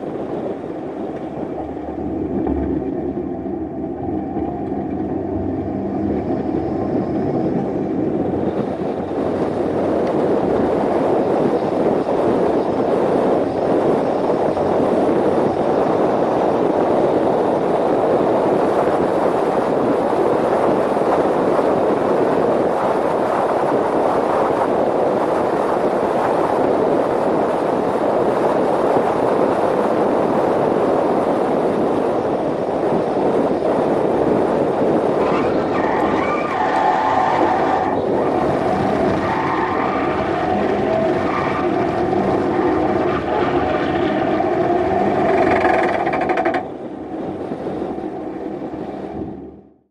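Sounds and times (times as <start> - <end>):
wind rushing: 0.0 - 49.7
car engine: 0.0 - 49.8
road noise: 0.0 - 49.9.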